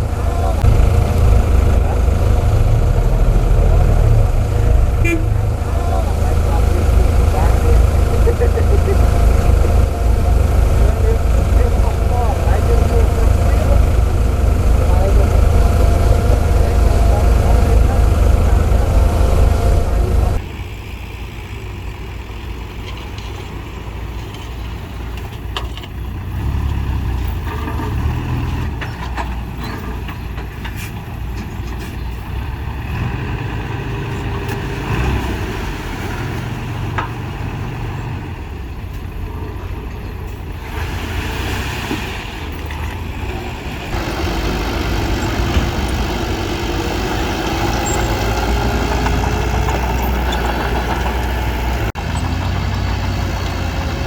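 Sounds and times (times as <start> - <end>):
diesel earthmoving machinery running: 0.0 - 54.0.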